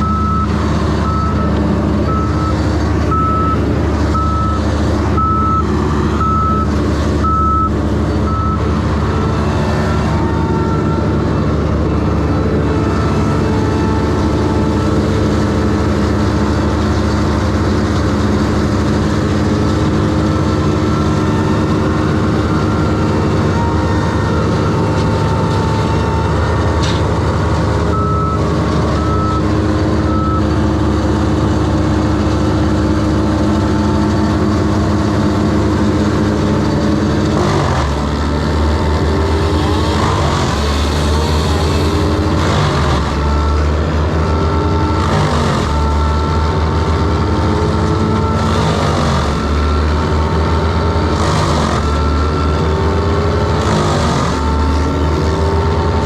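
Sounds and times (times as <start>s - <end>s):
heavy engine droning: 0.0s - 56.0s.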